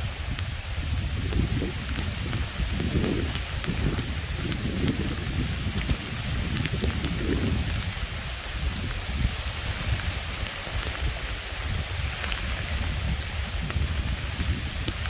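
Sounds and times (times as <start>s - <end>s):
rain on river surface: 0.0s - 15.0s.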